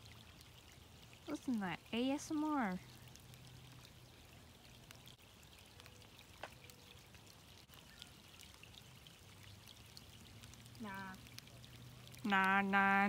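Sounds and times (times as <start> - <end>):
light rain on water: 0.0 - 13.0.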